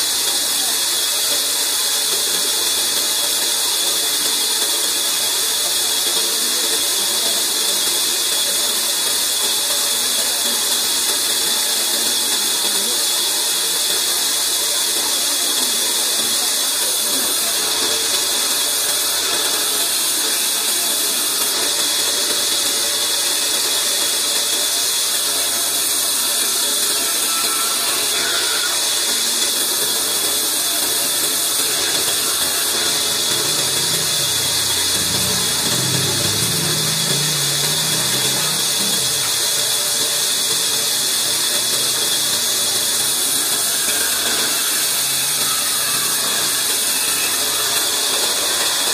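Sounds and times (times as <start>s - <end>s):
band saw cutting log: 0.0s - 48.9s.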